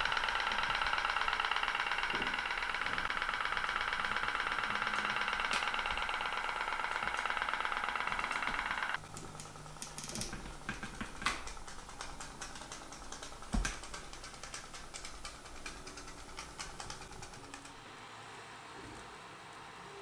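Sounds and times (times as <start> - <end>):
toy steam boat engine clicking: 0.0 - 17.8.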